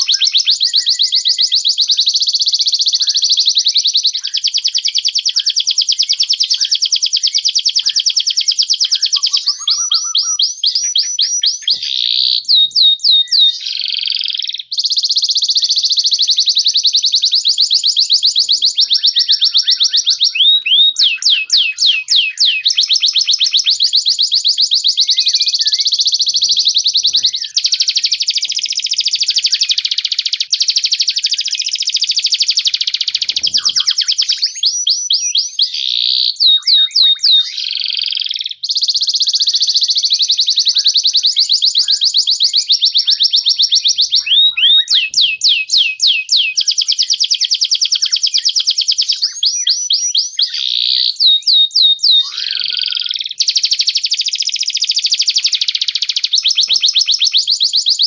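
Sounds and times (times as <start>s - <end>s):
birds singing rapid trills: 0.0s - 58.0s.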